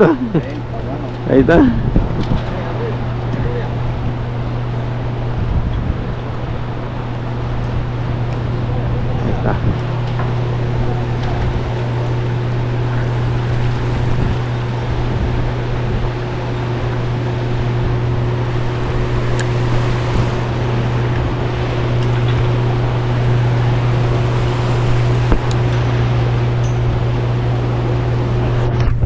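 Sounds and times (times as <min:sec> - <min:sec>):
low motor hum: 0:00.0 - 0:29.0
water wash: 0:00.0 - 0:29.0
wind noise: 0:01.2 - 0:29.0.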